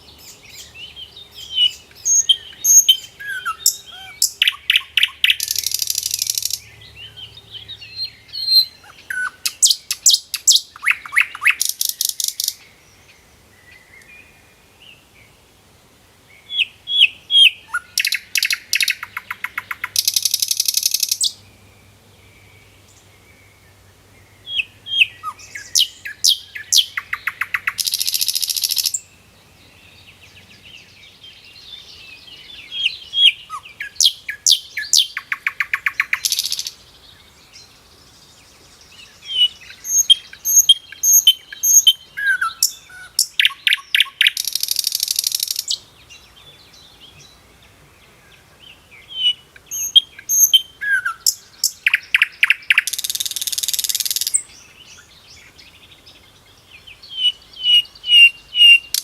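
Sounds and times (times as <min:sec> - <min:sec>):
songbird singing with buzzy trill: 0:00.0 - 0:15.6, 0:16.2 - 0:59.0.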